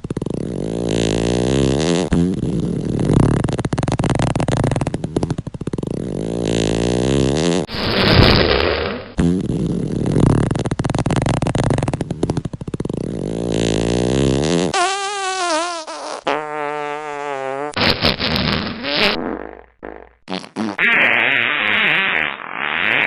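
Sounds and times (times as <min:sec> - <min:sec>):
fart sound effects: 0:00.0 - 0:23.0.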